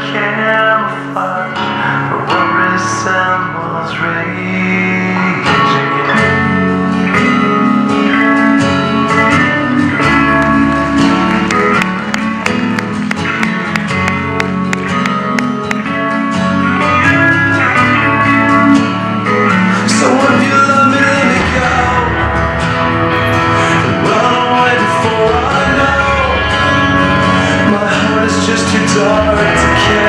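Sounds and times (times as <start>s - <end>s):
plucked guitar music: 0.0s - 30.0s.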